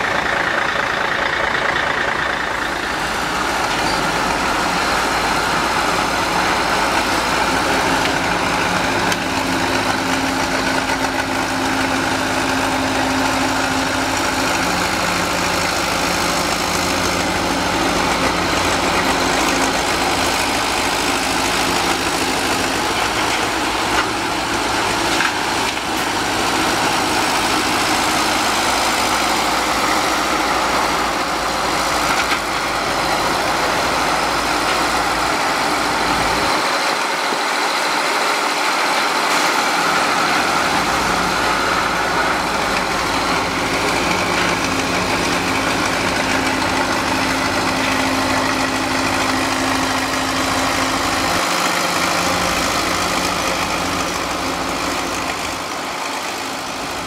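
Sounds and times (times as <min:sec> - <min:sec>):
excavator engine rumbling: 0:00.0 - 0:57.0.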